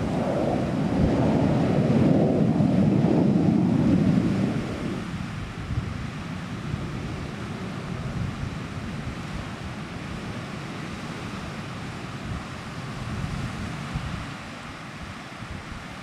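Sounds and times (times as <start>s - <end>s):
surf breaking on beach: 0.0s - 16.0s
wind gusting across microphone: 0.0s - 16.0s.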